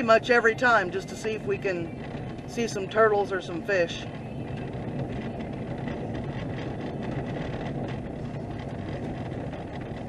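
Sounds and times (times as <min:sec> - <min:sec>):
stones ticking under tyres: 0:00.0 - 0:10.0
vehicle engine hum: 0:00.0 - 0:10.0.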